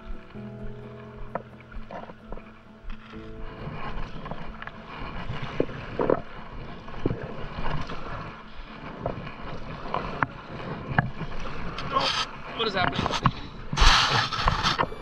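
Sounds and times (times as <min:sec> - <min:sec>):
moving water wash: 0:00.0 - 0:15.0
paddle splashes: 0:00.0 - 0:15.0
wind buffeting microphone: 0:00.0 - 0:15.0.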